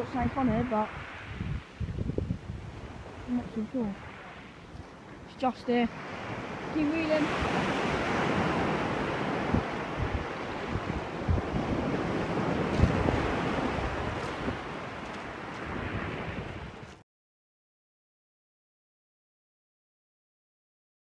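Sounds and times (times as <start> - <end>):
waves breaking on shingle beach: 0.0 - 17.0
wind buffeting microphone: 0.0 - 17.0.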